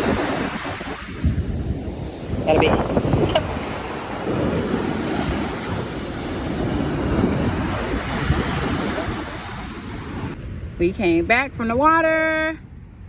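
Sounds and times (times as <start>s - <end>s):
ocean surf washing on beach: 0.0s - 11.4s
wind buffeting microphone: 0.0s - 13.0s.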